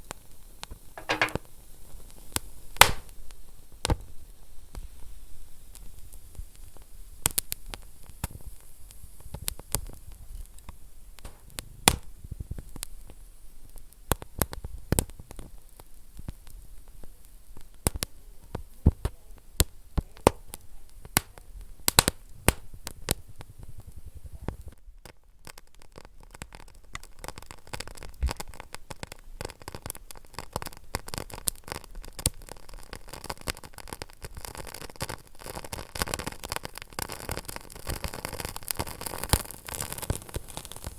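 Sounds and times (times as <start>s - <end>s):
low rumble of fire: 0.0s - 40.9s
wood fire crackling and popping: 0.0s - 40.9s.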